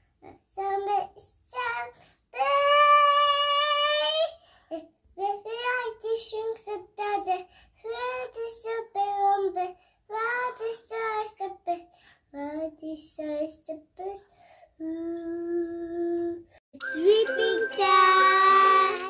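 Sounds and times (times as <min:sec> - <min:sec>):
child singing: 0:00.3 - 0:04.4, 0:05.2 - 0:19.0.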